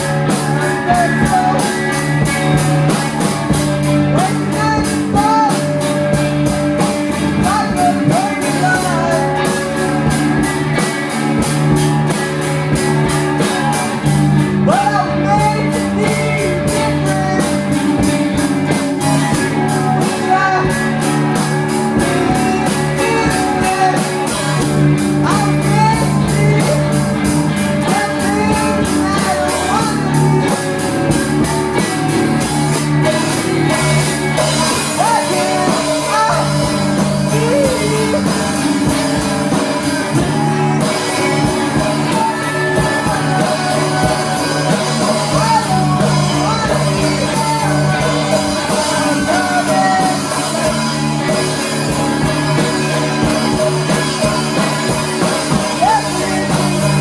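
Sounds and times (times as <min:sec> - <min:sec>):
live rock band playing: 0:00.0 - 0:57.0
person singing: 0:00.0 - 0:57.0
steady drum beat: 0:00.0 - 0:57.0.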